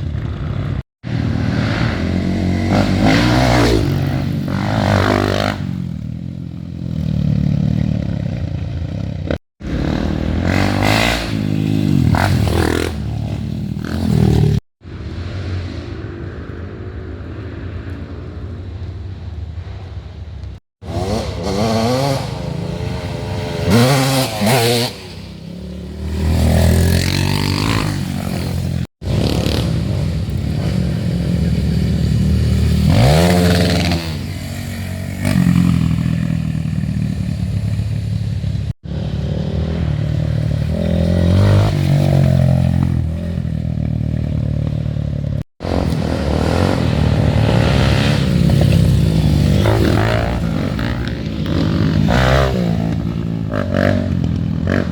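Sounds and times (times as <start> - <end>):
dirt bike engines revving: 0.0 - 16.7, 20.8 - 54.9.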